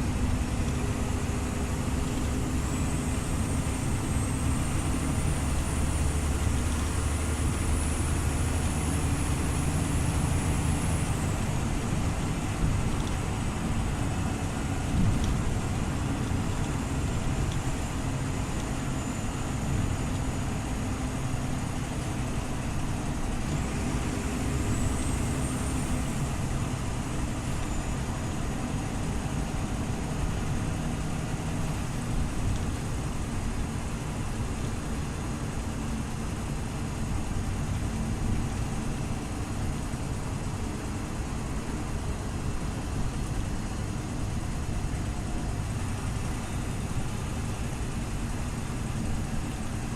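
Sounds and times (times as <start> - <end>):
faint high whine: 0.0 - 37.5, 38.1 - 49.9
bus engine drone: 0.0 - 49.9
road noise: 0.0 - 49.9.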